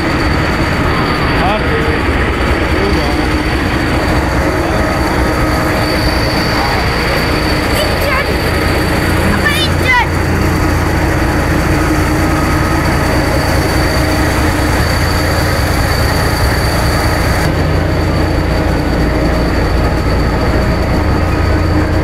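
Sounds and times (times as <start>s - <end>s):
diesel engine low drone: 0.0s - 22.0s
high whine: 0.0s - 22.0s.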